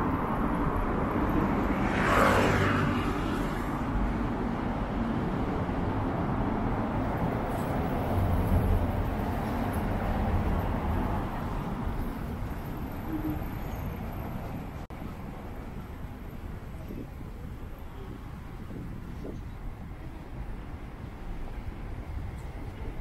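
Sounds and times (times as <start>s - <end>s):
traffic hum: 0.0s - 23.0s.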